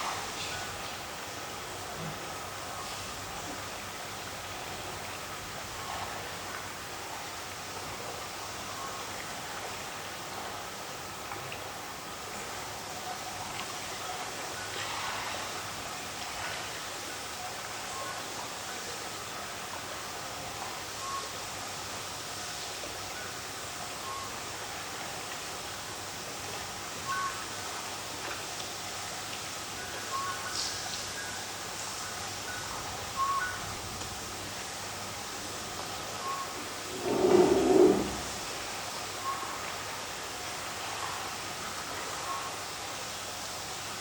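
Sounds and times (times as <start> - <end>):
night wind: 0.0 - 44.0.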